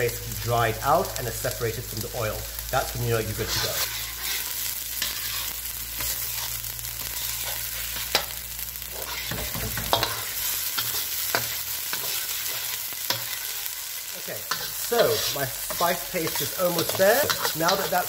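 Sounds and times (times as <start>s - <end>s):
paste sizzling in oil: 0.0s - 18.0s.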